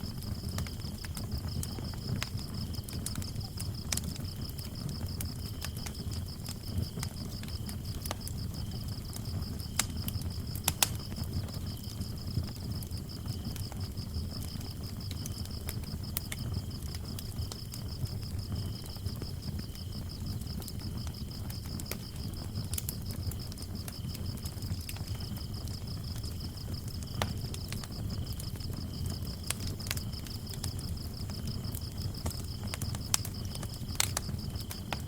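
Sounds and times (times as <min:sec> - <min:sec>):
lower cricket chirping: 0:00.0 - 0:35.0
wood fire crackling and popping: 0:00.0 - 0:35.0.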